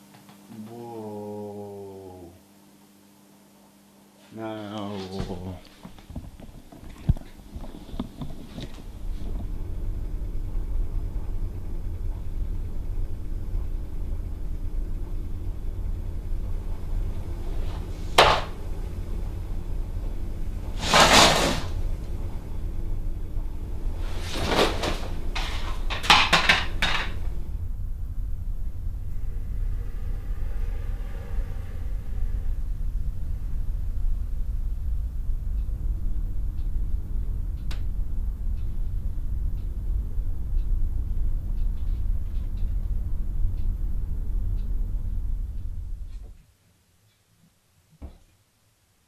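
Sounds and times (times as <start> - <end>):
low hum: 0.0 - 46.6.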